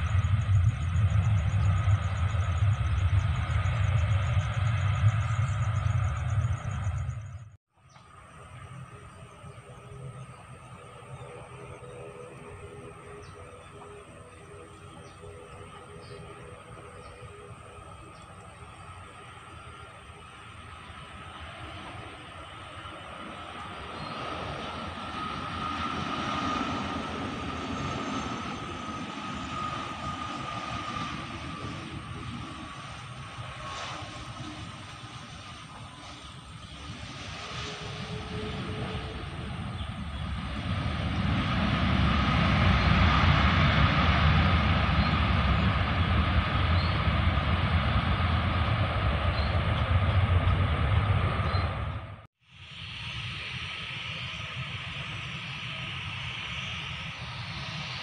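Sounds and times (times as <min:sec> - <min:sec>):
jet airliner passing low: 0:00.0 - 0:58.0.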